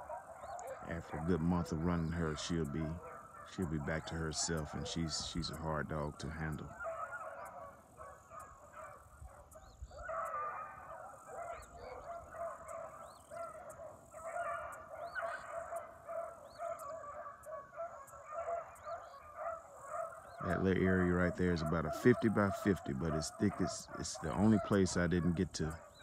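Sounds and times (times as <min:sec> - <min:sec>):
pack of dogs baying: 0:00.0 - 0:26.0.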